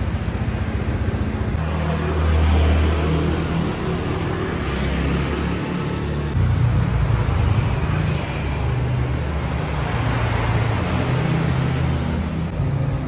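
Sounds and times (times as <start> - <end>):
car engines passing: 0.0 - 13.0
motorbike engines passing: 0.0 - 13.0.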